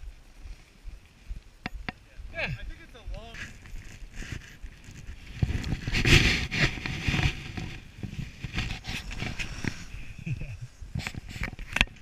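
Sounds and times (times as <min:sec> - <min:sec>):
wind buffeting microphone: 0:00.0 - 0:12.0
skis scraping over snow: 0:02.4 - 0:12.0.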